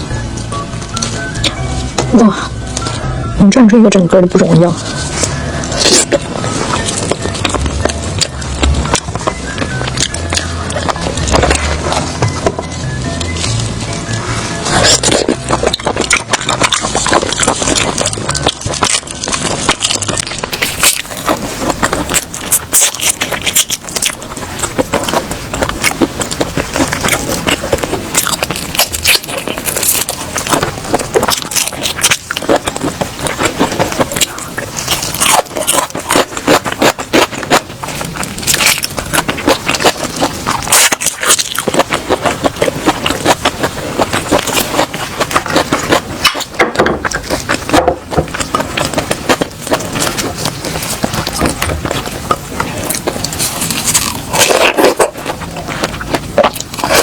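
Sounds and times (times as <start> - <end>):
crunchy chewing: 0.0 - 3.4, 4.6 - 57.0.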